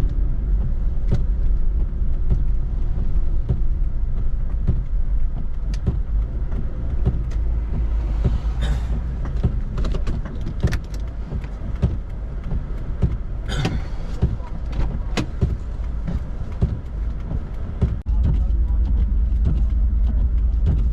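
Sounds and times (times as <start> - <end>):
knocks and clunks: 0.0 - 20.9
vehicle rumble: 0.0 - 20.9.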